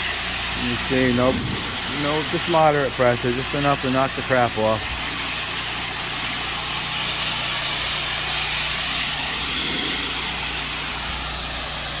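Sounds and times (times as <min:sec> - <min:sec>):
motor humming: 0:00.0 - 0:12.0
pressure washer jet hissing: 0:00.0 - 0:12.0.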